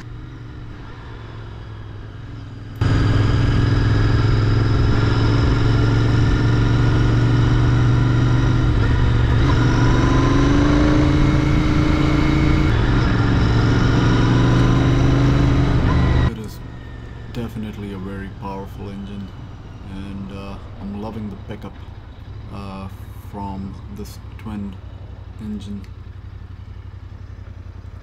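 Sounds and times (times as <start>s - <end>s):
motorcycle engine and exhaust: 0.0s - 28.0s.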